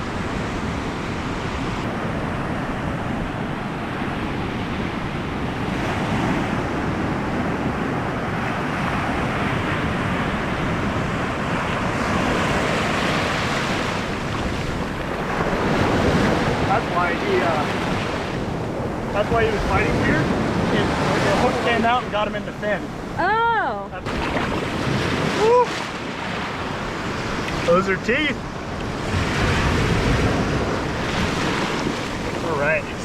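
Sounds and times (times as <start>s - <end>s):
surf breaking on beach: 0.0s - 23.3s, 24.0s - 33.0s
wind buffeting microphone: 0.0s - 33.0s.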